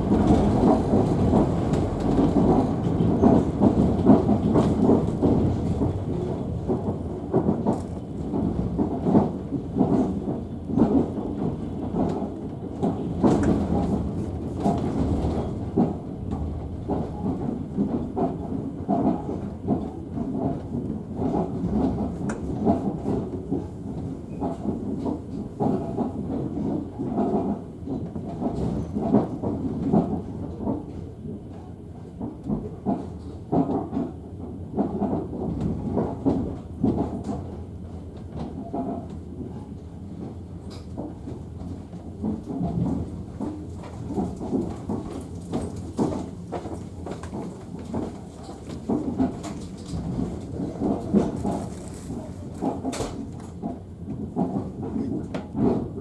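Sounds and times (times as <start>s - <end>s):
train rumbling on rails: 0.0s - 56.0s
train wheels clacking: 0.0s - 56.0s.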